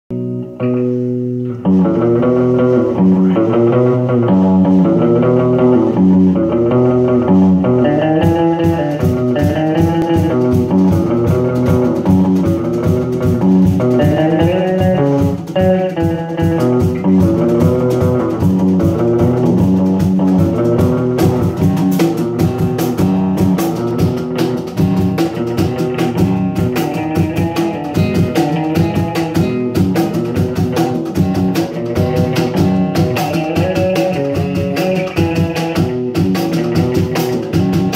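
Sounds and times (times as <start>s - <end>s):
bass line: 0.1s - 37.9s
electric guitars playing rock riff: 0.1s - 37.9s.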